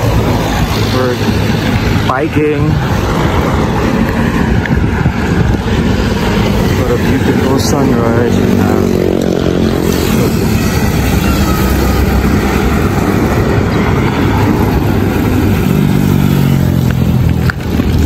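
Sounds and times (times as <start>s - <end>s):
engine humming: 0.0s - 18.0s
low traffic rumble: 0.0s - 18.0s
motorcycles and cars passing: 0.0s - 18.0s.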